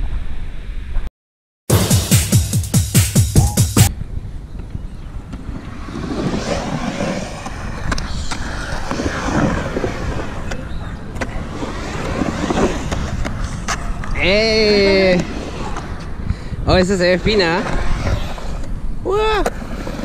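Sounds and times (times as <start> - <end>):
skateboard wheels rolling on concrete: 3.9 - 20.0.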